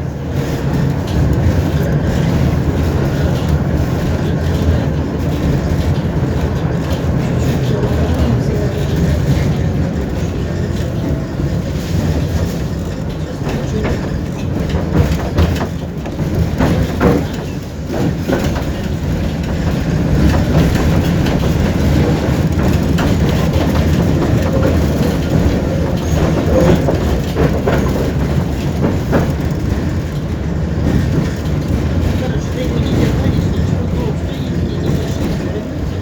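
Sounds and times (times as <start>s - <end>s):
tram low rumble: 0.0s - 36.0s
wheels clattering on track: 0.0s - 36.0s.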